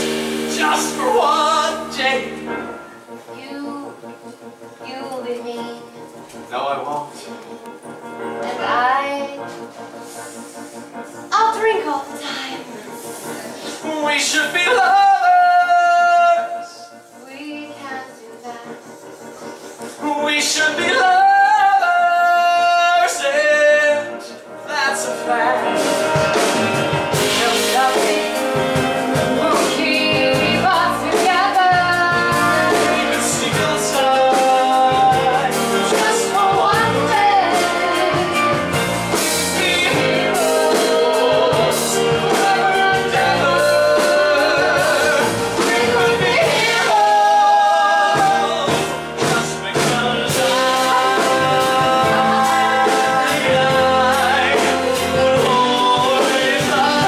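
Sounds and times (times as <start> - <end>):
man and woman singing duet: 0.0 - 5.6, 12.6 - 18.9, 19.8 - 57.0
band accompaniment: 0.0 - 57.0.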